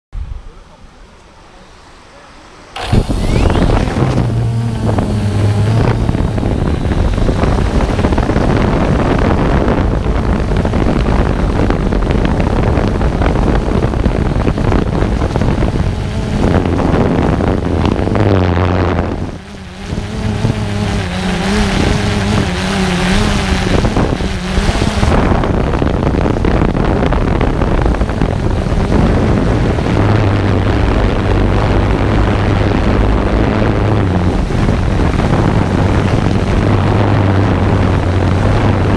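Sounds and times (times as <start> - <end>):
wind buffeting microphone: 0.2 - 38.9
drone motors and propellers: 0.6 - 38.9.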